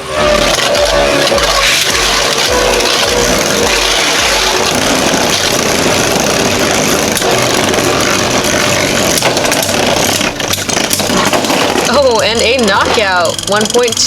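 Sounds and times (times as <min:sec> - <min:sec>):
spinning tops whirring and scraping: 0:00.0 - 0:14.0
spinning tops clacking together: 0:00.3 - 0:14.0.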